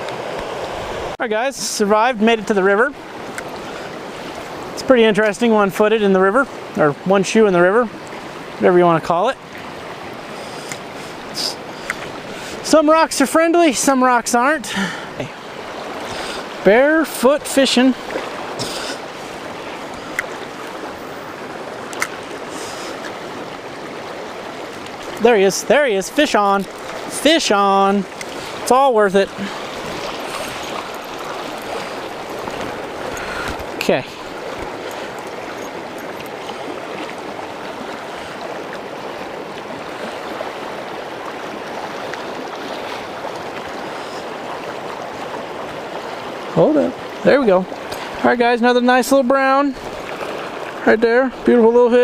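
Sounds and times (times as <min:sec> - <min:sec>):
river water rushing over rocks: 0:00.0 - 0:52.0.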